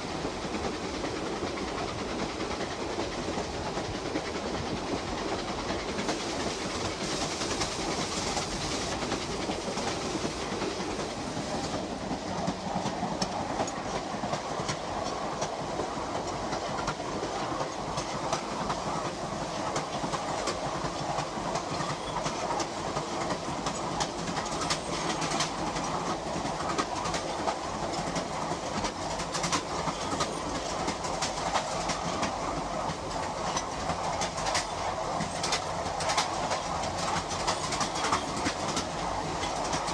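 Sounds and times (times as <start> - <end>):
rapid irregular clicks: 0.5 - 39.9.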